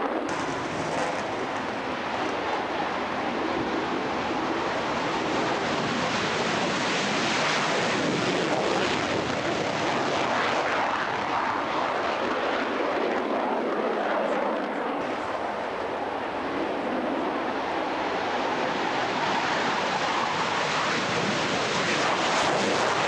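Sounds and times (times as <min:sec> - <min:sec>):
jet engines in afterburner: 0:00.0 - 0:23.0.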